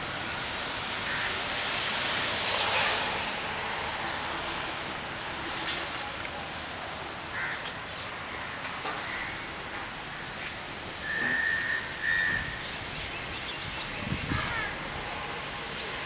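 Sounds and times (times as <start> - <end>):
distant traffic hiss: 0.0 - 16.0.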